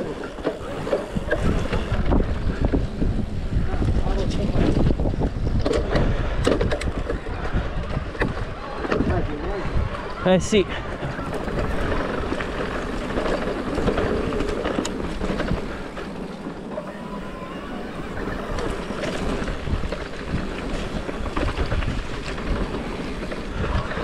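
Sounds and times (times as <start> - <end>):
bike rattling and knocking: 0.0 - 24.0
bike tyres rolling over dirt: 0.0 - 24.0
wind on microphone: 0.0 - 24.0.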